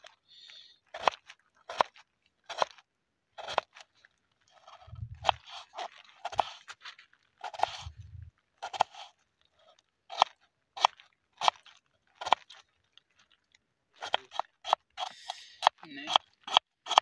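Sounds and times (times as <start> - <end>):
knife crunching through potato: 0.0 - 17.0.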